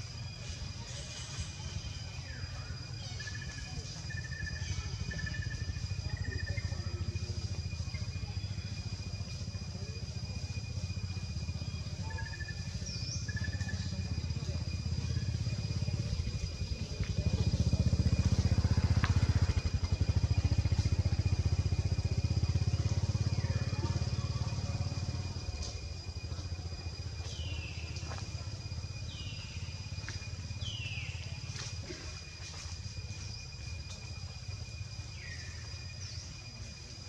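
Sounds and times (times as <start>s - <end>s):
passing vehicle engine rumble: 0.0s - 37.0s.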